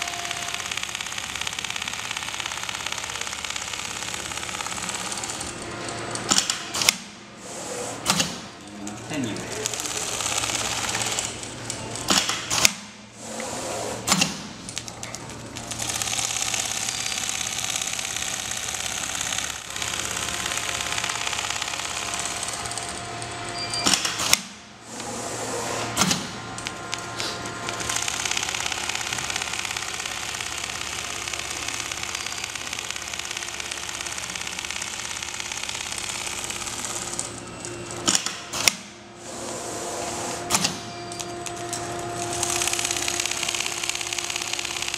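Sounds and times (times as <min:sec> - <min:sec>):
sharp machine clacks: 0:00.0 - 0:07.2, 0:08.0 - 0:14.6, 0:15.6 - 0:39.0, 0:40.2 - 0:44.9
sewing machine chatter: 0:00.0 - 0:44.9.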